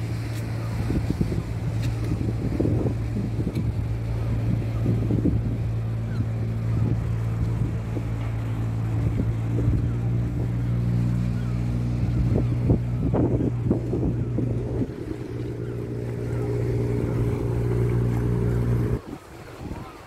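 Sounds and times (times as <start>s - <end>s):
low engine drone: 0.0s - 19.1s.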